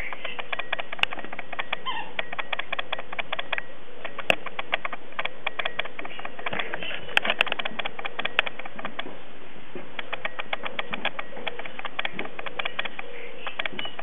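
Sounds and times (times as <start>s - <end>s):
rapid clicking animal calls: 0.0s - 9.1s, 9.8s - 14.0s
sharp loud clicks: 0.0s - 9.1s, 9.9s - 14.0s.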